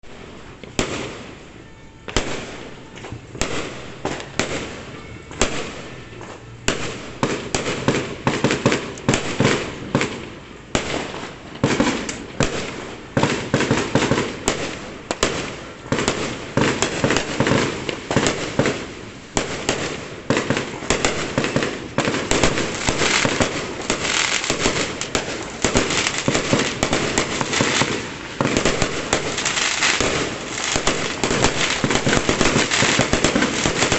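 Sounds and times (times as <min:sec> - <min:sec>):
fireworks bangs and crackling: 0:00.0 - 0:33.9.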